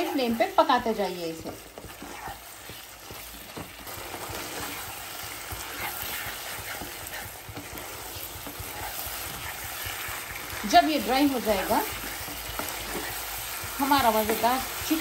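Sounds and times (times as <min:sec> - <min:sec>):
chicken sizzling in oil: 0:00.0 - 0:15.0
metal spatula scraping pan: 0:00.0 - 0:15.0.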